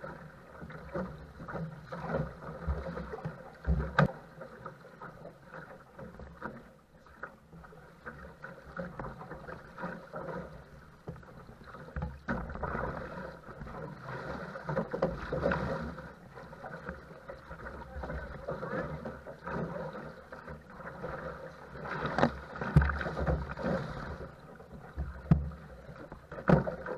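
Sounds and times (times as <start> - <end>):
water splashing against a boat: 0.0 - 26.9.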